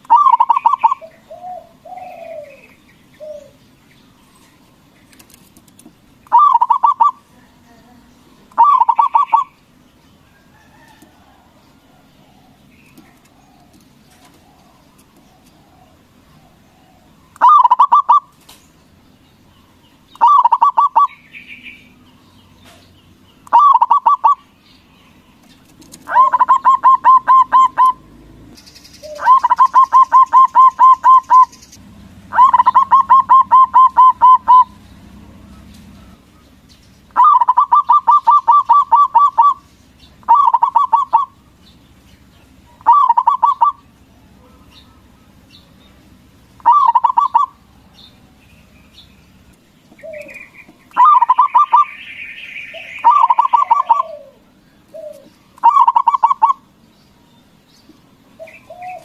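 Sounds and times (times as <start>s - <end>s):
dove rapid cooing song: 0.0s - 59.0s.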